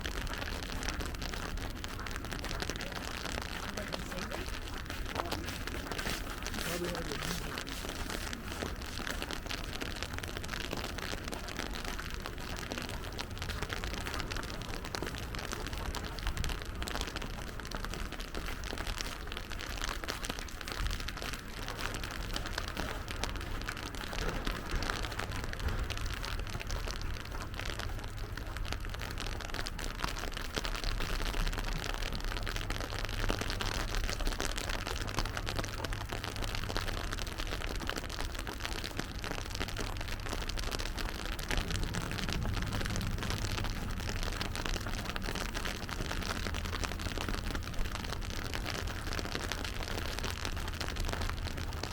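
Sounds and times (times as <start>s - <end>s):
continuous low rumble: 0.0s - 51.9s
rain pattering on wet surfaces: 0.0s - 51.9s.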